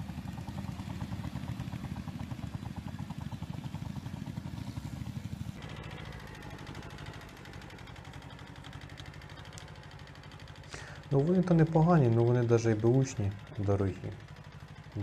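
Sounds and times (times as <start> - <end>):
small tractor engine running: 0.0 - 15.0
tractor engine under load: 0.0 - 15.0.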